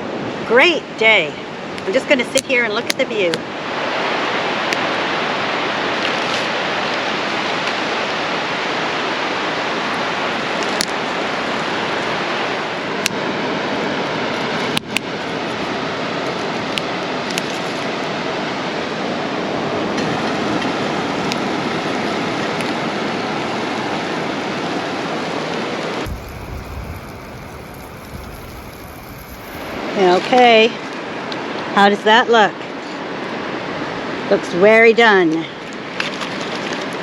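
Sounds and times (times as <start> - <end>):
ocean surf rushing: 0.0 - 34.4.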